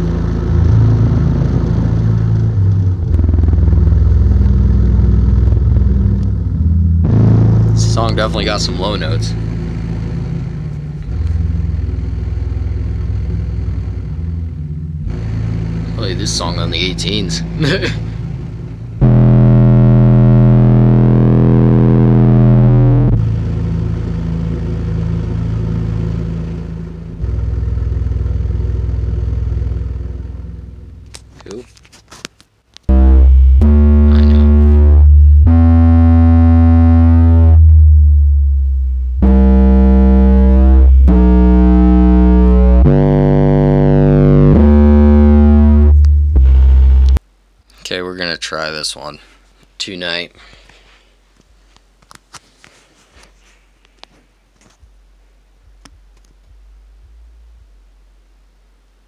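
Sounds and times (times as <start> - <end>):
subwoofer playing bass: 0.0 - 31.5, 32.9 - 47.2, 55.6 - 58.2.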